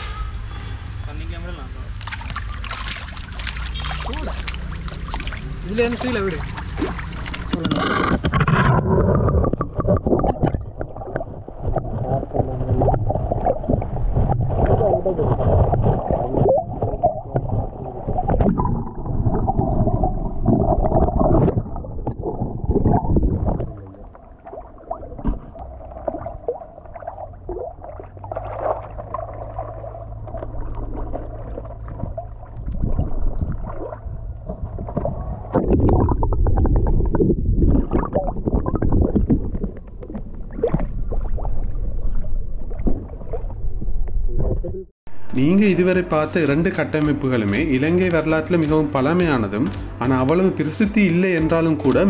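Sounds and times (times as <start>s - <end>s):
muffled water gurgling and sloshing: 1.8s - 47.4s.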